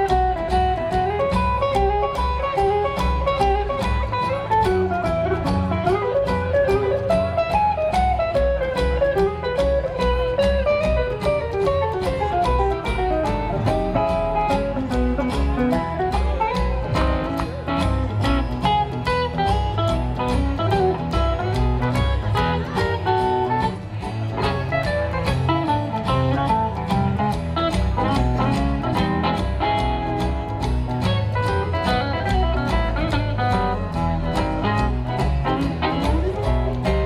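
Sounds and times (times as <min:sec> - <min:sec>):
acoustic and electric guitars: 0:00.0 - 0:37.0
swing band playing: 0:00.0 - 0:37.0
upright bass: 0:00.0 - 0:37.0.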